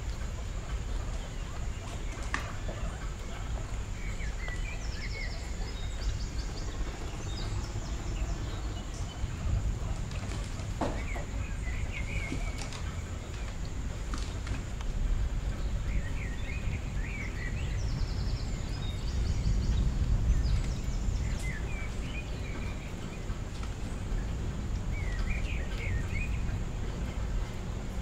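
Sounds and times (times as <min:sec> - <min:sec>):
low background rumble: 0:00.0 - 0:28.0.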